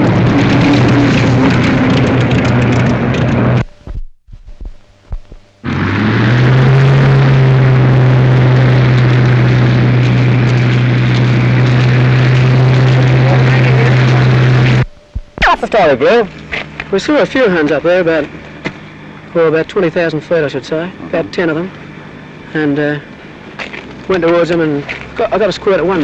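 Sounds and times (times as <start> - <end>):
piston aircraft engine droning: 0.0 - 26.0.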